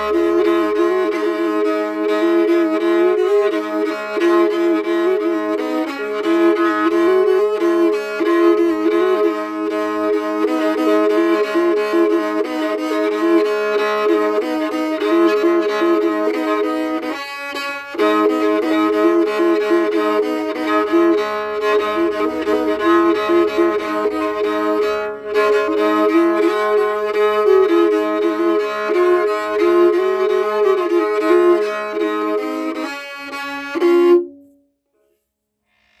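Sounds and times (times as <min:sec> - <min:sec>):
bowed lyre melody over drone: 0:00.0 - 0:34.4.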